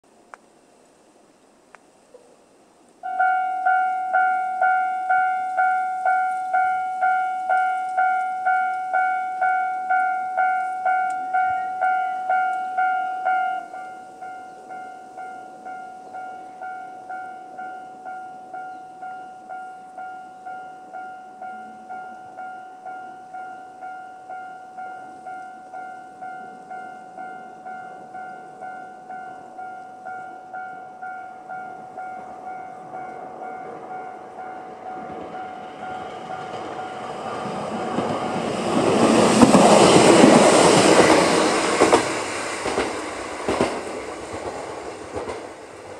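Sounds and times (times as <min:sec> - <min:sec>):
level crossing warning bell: 0:03.0 - 0:45.3.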